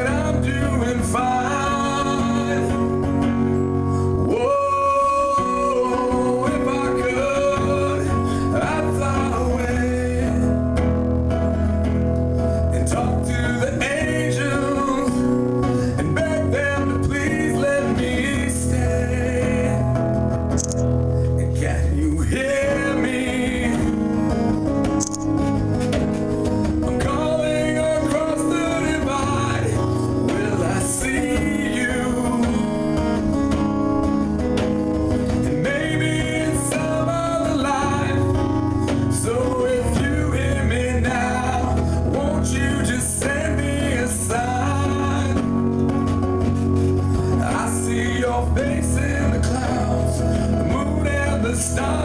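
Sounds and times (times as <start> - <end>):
person singing: 0.0 - 11.1, 12.4 - 20.2, 21.3 - 24.5, 26.6 - 33.7, 35.2 - 52.0
live band guitar: 0.0 - 52.0.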